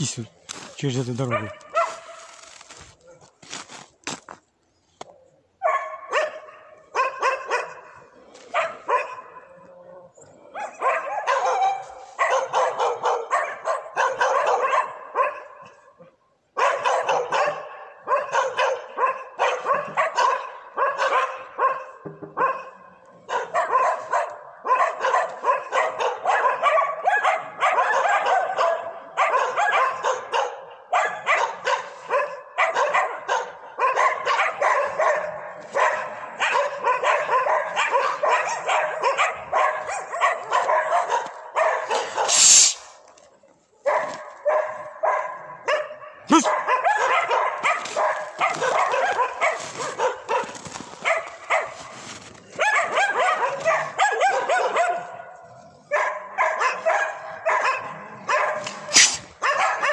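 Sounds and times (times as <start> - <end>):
dogs barking: 0.1 - 3.4, 5.0 - 43.2, 43.8 - 59.9.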